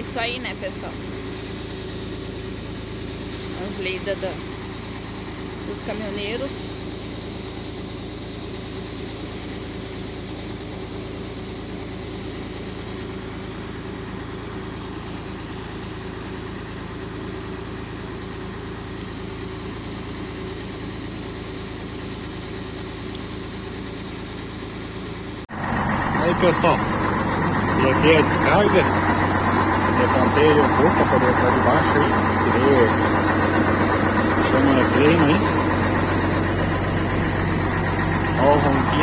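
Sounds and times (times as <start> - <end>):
diesel engine idling: 0.0 - 24.2, 25.5 - 39.0.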